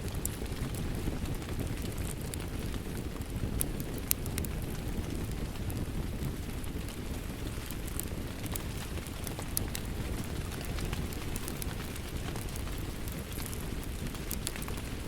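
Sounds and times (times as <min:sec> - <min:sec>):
rain rumbling: 0:00.0 - 0:15.0
wood fire crackling and popping: 0:00.0 - 0:15.0.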